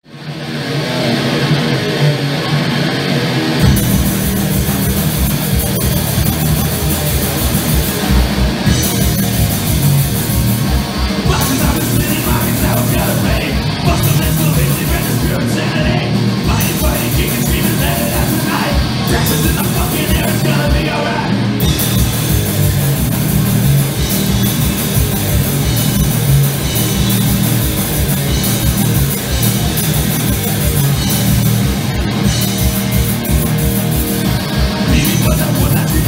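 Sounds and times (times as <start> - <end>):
bass guitar: 0.0 - 36.0
distorted electric guitar: 0.0 - 36.0
drum kit: 1.0 - 36.0.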